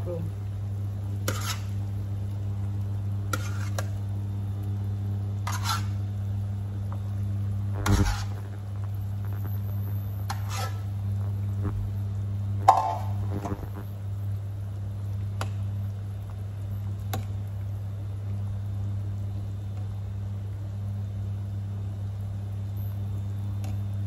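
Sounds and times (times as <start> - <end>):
low hum: 0.0 - 24.0
soup boiling in a pot: 0.1 - 24.0.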